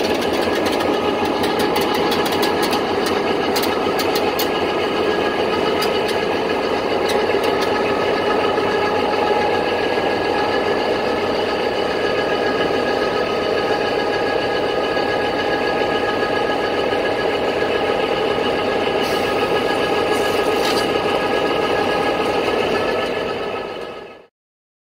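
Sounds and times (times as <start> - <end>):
high whine: 0.0 - 24.3
locomotive engine idling hum: 0.0 - 24.3.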